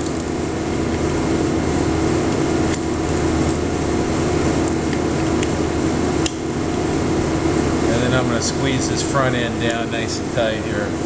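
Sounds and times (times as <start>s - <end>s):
shop equipment humming: 0.0s - 11.0s.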